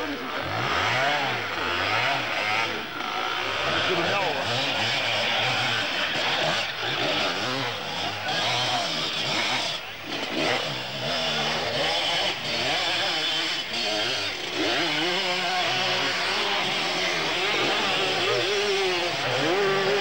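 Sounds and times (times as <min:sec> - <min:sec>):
motorcycles revving passing by: 0:00.0 - 0:20.0.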